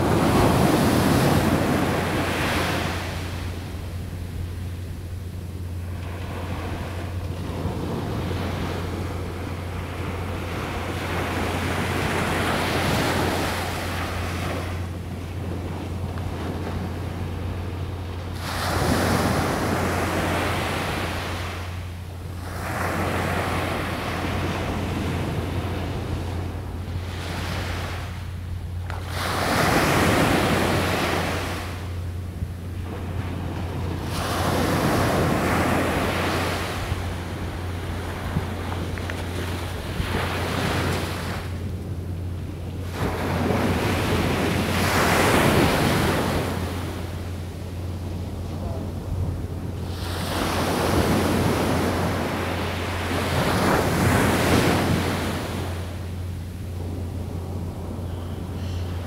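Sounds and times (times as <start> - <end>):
surf breaking on a beach: 0.0 - 4.4, 5.8 - 32.0, 32.7 - 42.0, 42.6 - 59.0
steady low drone: 0.0 - 59.0.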